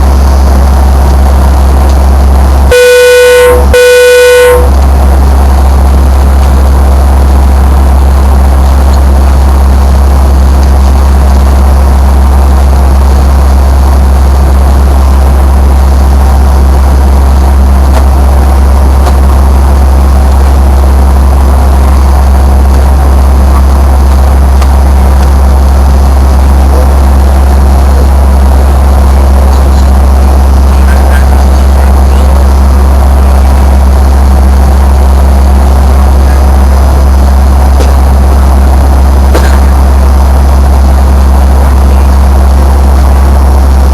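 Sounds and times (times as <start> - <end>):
jetliner cabin engine rumble: 0.0 - 43.9.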